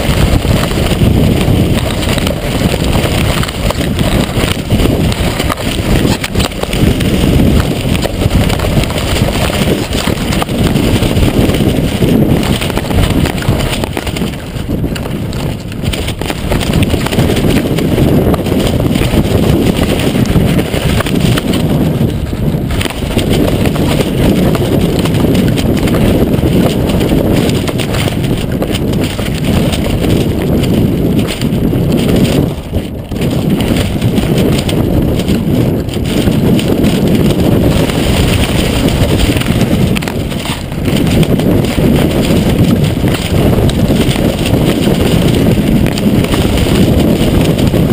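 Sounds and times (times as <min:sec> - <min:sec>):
gusty wind on microphone: 0:00.0 - 0:47.9.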